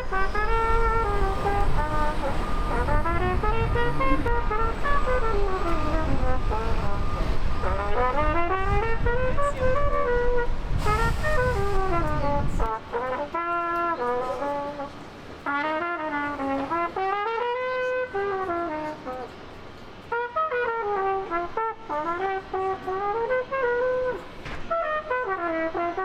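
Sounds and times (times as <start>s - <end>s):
solo horn playing jazz melody: 0.0s - 26.0s.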